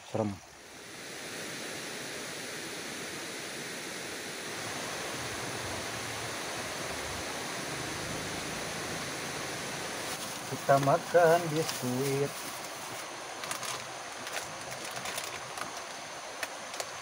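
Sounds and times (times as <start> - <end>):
river water rushing: 0.5 - 17.0.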